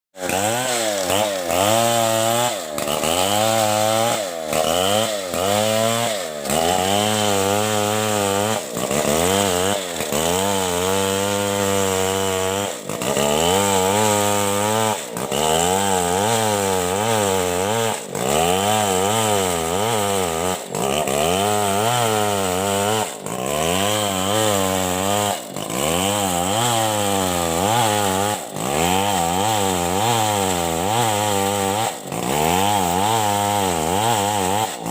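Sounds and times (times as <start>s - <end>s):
chainsaw sawing: 0.1s - 34.9s.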